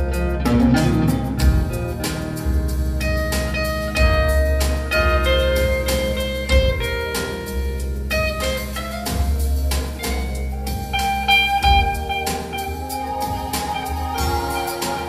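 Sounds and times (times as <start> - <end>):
electric guitar: 0.0 - 9.3, 9.9 - 15.0
drums keeping a beat: 0.0 - 15.0
heavy bass line: 0.0 - 15.0
keyboard: 0.0 - 15.0.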